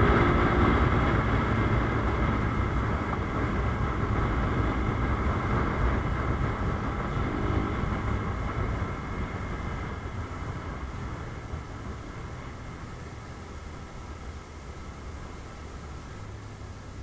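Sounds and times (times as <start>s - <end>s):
motorcycle engine at speed: 0.0s - 17.0s.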